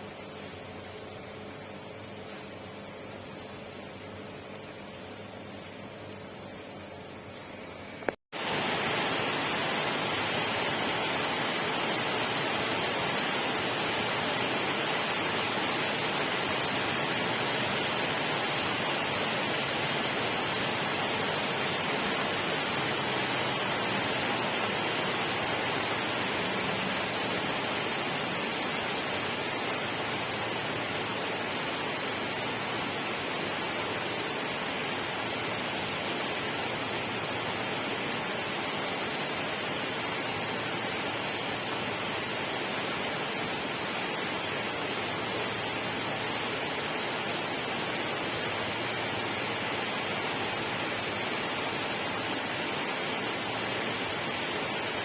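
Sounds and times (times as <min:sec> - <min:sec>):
water rushing: 0:08.4 - 0:55.0.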